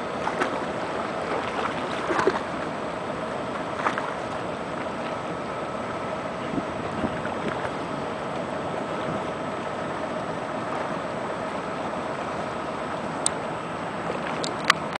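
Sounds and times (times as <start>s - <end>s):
engine drone: 0.0s - 15.0s
water washing: 0.0s - 15.0s
wind: 0.0s - 15.0s.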